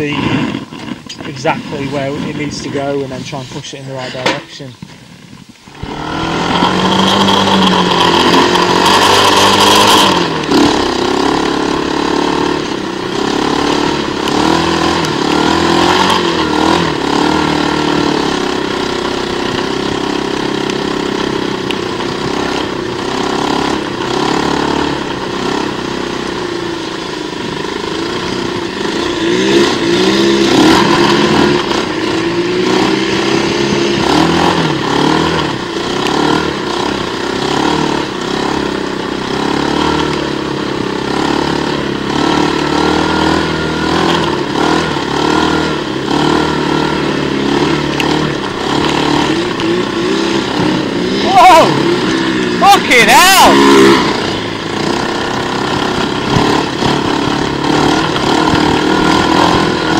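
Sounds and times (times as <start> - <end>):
quad bike engine revving: 0.0 - 4.7, 5.7 - 59.9.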